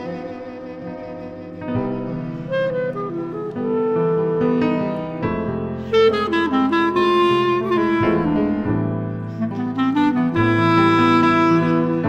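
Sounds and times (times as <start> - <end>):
clarinet violin and piano trio: 0.0 - 12.0.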